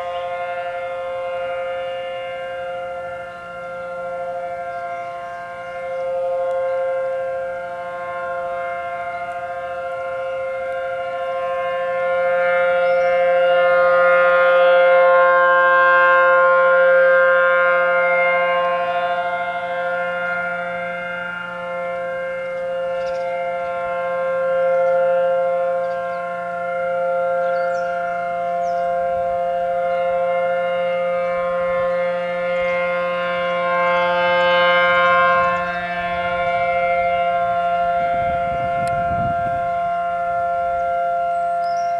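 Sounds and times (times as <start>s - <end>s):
warning siren steady tone: 0.0s - 41.9s.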